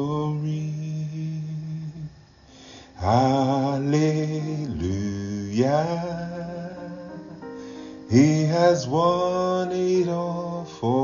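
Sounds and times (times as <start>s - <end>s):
man singing gospel: 0.0s - 11.0s.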